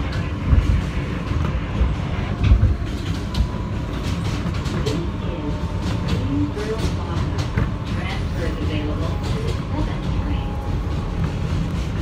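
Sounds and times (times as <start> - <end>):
subway car rumble: 0.0 - 12.0.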